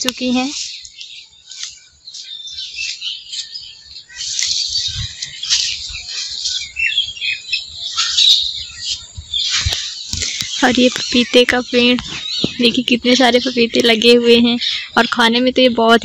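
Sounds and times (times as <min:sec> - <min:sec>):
small birds chirping chorus: 0:00.0 - 0:16.0.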